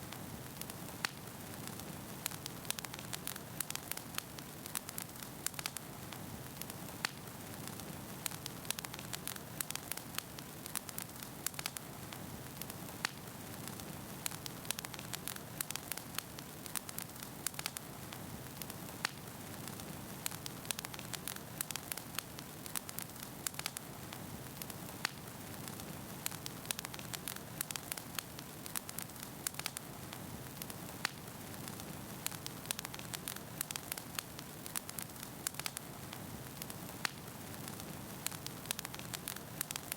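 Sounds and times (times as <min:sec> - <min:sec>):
burning logs crackling and popping: 0:00.0 - 0:39.9.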